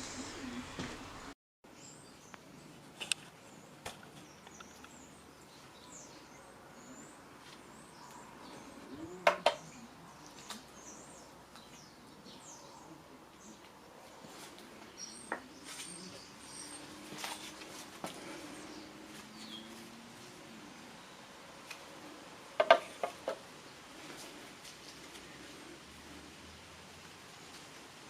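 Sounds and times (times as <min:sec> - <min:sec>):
birds chirping faintly: 0:00.0 - 0:26.2.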